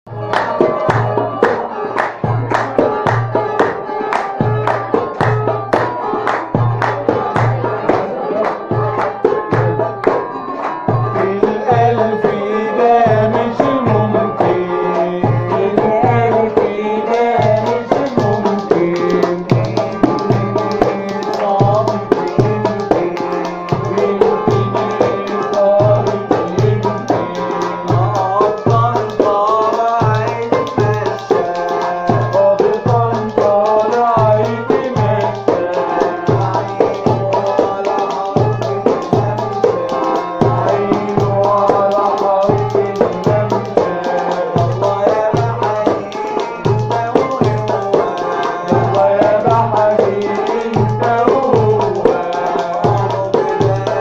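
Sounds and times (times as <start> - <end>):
other percussion: 0.1 - 54.0
steady drum beat: 0.1 - 54.0
wavering folk melody: 0.1 - 54.0.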